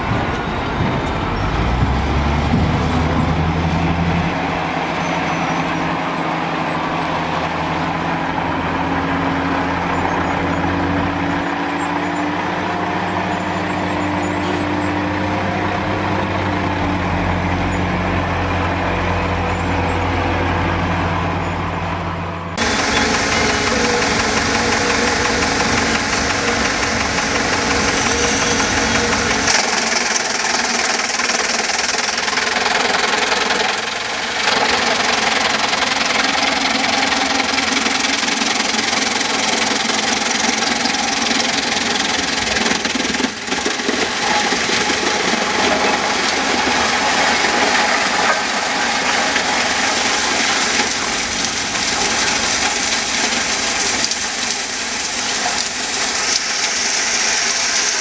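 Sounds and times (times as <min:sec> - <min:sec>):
machinery running loudly: 0:00.0 - 0:58.0.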